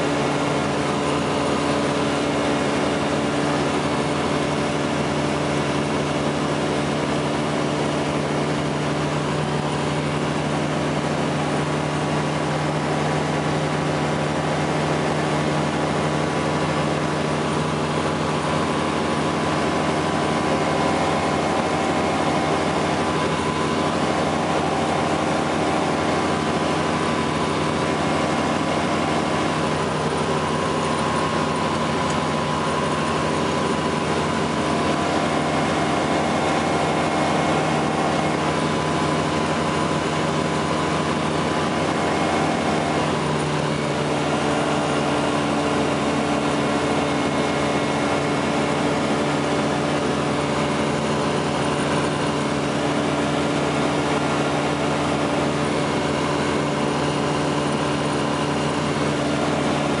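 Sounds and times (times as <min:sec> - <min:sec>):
aircraft engine and propeller droning: 0:00.0 - 1:00.0.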